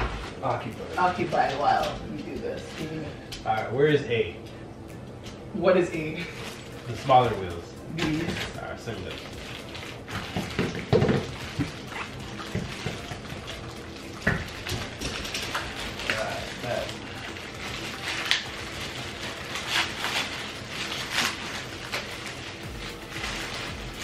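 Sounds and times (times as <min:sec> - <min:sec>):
plastic packaging crinkling: 0:00.4 - 0:03.3, 0:06.2 - 0:24.0.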